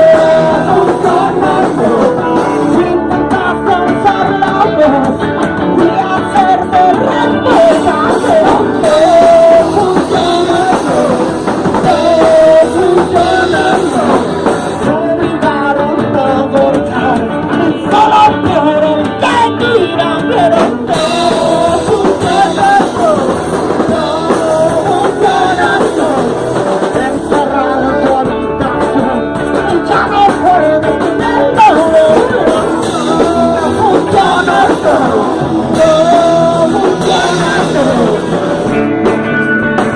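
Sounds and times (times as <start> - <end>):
drums: 0.0 - 39.9
guitar: 0.0 - 39.9
person singing: 0.0 - 39.9.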